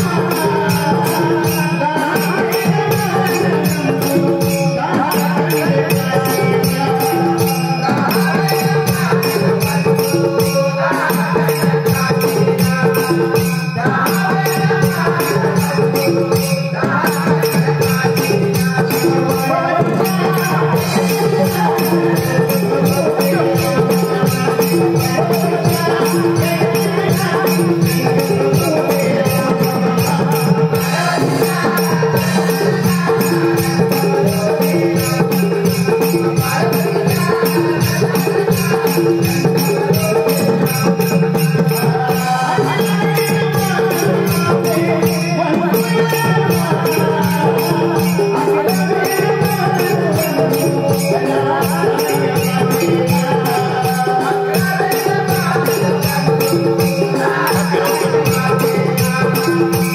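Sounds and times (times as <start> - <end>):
jingling percussion beat: 0.0 - 59.9
men singing together: 0.0 - 59.9.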